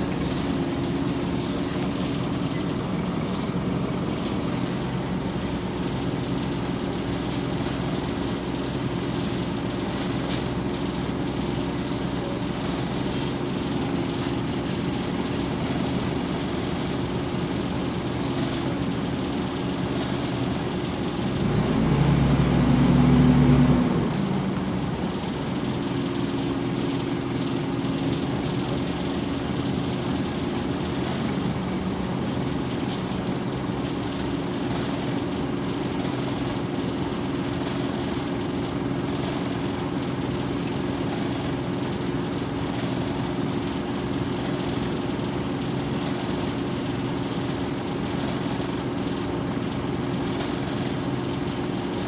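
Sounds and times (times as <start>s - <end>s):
bus engine humming: 0.0s - 52.0s.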